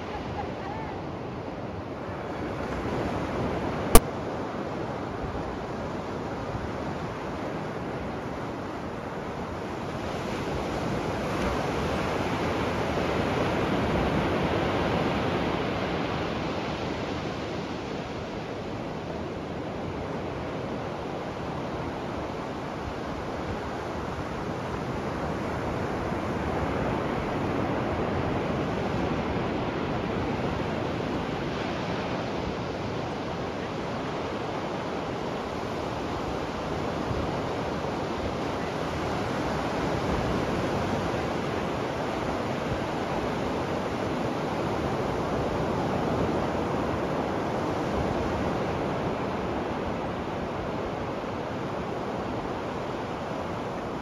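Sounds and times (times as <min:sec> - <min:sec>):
ocean waves breaking on sand: 0:00.0 - 0:54.0.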